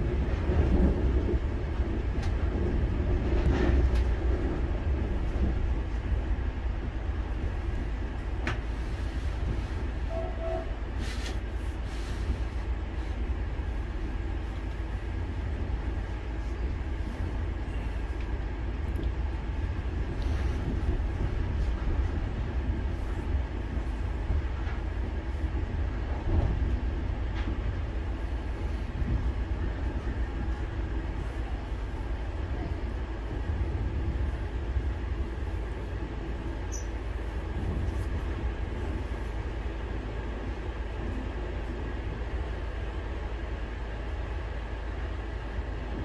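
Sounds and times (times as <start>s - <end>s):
train running rumble: 0.0s - 46.0s.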